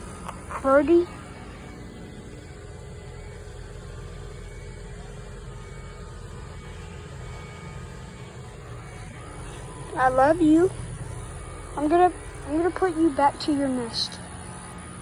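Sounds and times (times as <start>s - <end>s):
faint hum: 0.0s - 15.0s
low background rumble: 0.0s - 15.0s.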